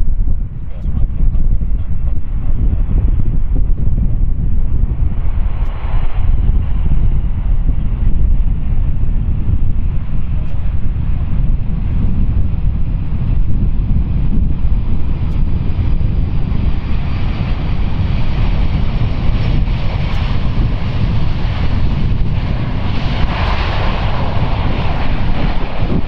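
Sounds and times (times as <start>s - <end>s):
jet engine noise: 0.0s - 26.0s
wind rumble on microphone: 0.0s - 26.0s.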